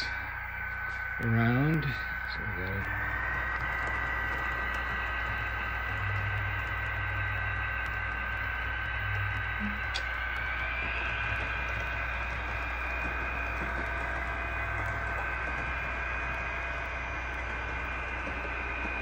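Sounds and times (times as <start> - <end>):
model train motor whine: 0.0 - 19.0.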